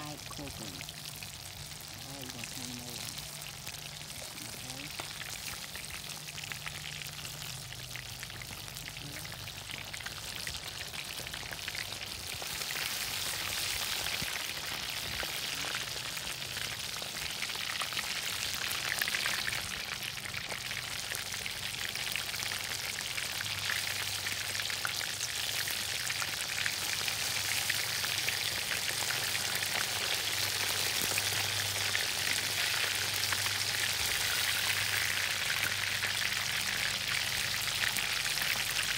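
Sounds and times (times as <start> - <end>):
fish deep-frying in hot oil: 0.0 - 38.9.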